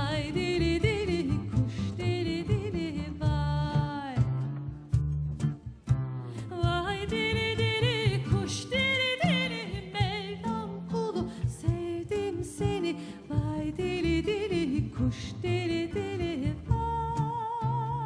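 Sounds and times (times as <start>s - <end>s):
woman singing: 0.0s - 4.7s, 6.3s - 18.0s
plucked upright bass: 0.0s - 18.0s.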